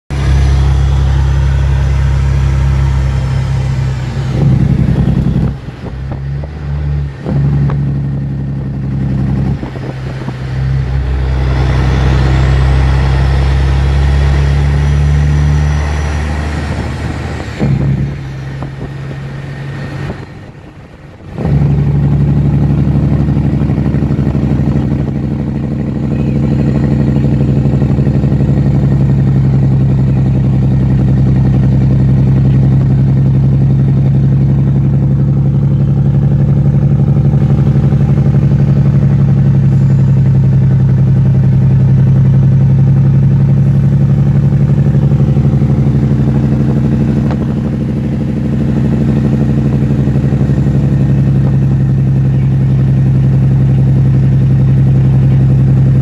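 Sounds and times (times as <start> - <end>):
truck engine brake droning: 0.1 - 22.6, 25.9 - 56.0.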